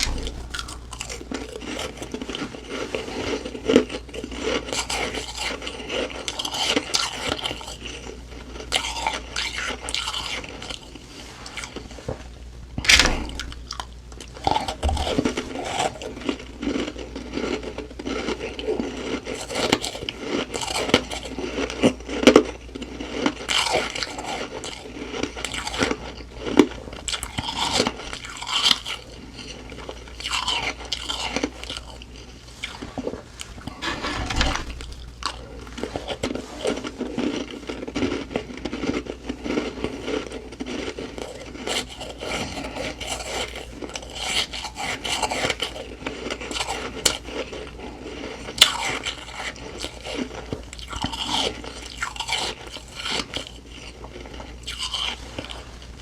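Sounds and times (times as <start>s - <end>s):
person chewing frost crunching: 0.0s - 56.0s.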